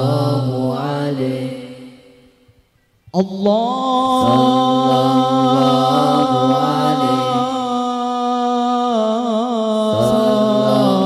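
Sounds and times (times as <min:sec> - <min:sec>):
group singing through microphones: 0:00.0 - 0:02.4, 0:03.2 - 0:11.0.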